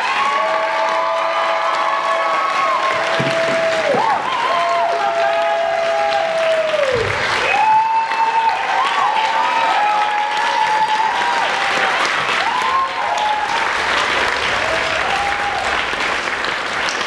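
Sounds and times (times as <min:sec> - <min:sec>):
crowd calling out: 0:00.0 - 0:16.0
audience applauding: 0:00.0 - 0:17.0.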